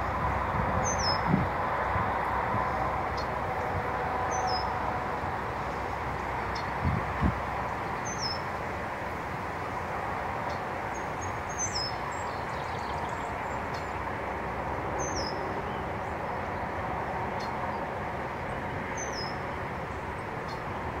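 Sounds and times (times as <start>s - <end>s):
wind rushing through grass: 0.0s - 21.0s.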